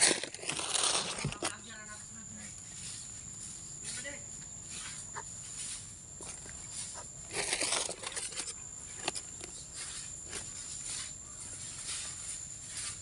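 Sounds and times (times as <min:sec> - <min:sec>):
rustling in dry leaves: 0:00.0 - 0:13.0.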